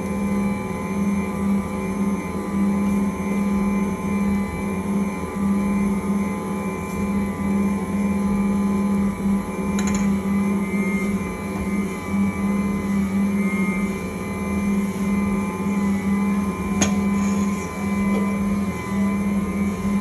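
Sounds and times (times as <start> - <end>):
stand mixer motor humming: 0.0 - 20.0.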